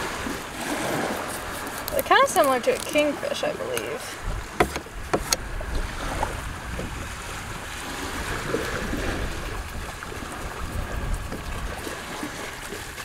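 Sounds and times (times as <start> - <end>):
water washing around hull: 0.0 - 13.0
wind buffeting microphone: 0.0 - 13.0.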